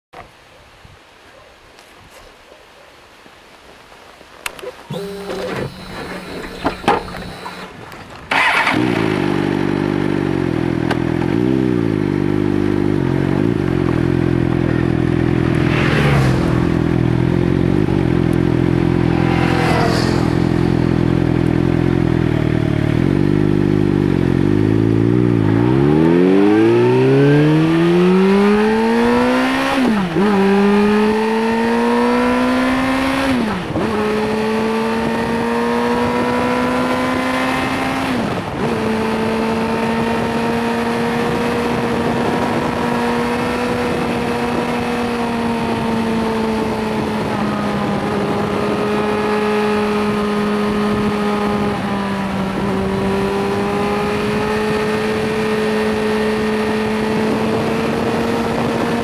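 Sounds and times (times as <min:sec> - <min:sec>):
motorcycle revving through gears: 0:04.9 - 0:59.0.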